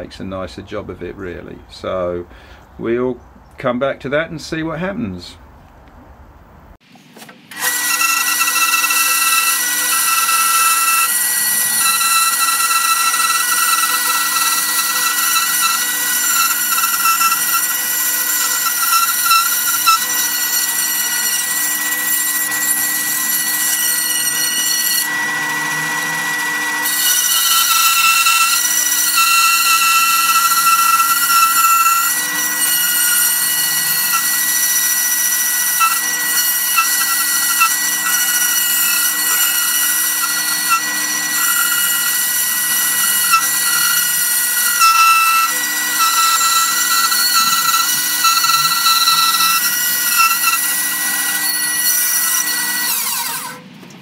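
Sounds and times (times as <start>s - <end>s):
bandsaw cutting wood: 7.5s - 53.7s.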